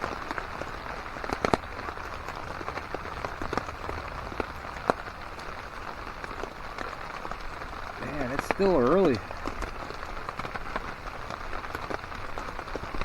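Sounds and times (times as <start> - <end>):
rain falling on a tarp: 0.0 - 13.0.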